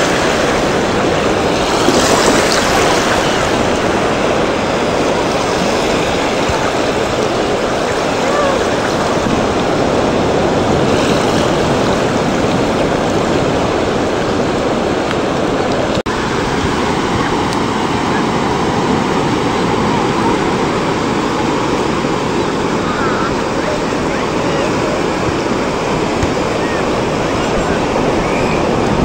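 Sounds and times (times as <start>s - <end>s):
ocean surf washing ashore: 0.0s - 29.0s.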